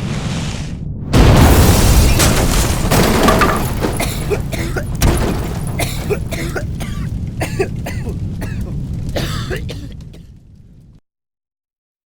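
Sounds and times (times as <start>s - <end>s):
firework crackles and pops: 1.2s - 11.0s.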